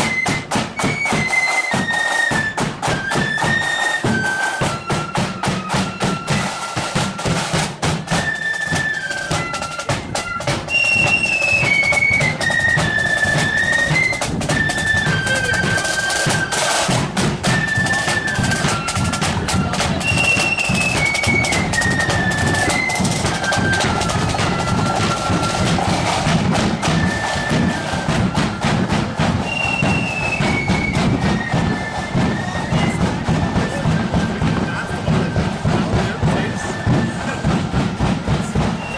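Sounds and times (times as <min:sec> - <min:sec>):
flutes playing high melody: 0:00.0 - 0:38.9
rapid snare drumming: 0:00.0 - 0:38.9.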